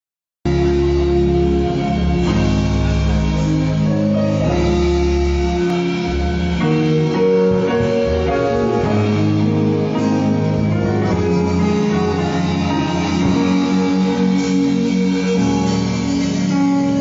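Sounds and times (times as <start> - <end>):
instrumental church music: 0.5 - 17.0.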